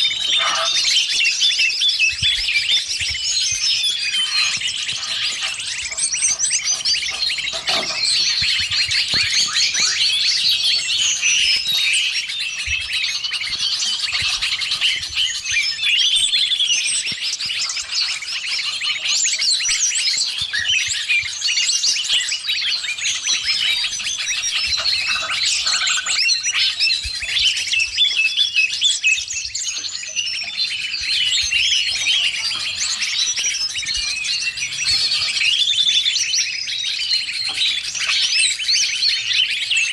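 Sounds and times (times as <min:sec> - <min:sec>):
many birds chirping and trilling: 0:00.0 - 0:39.9.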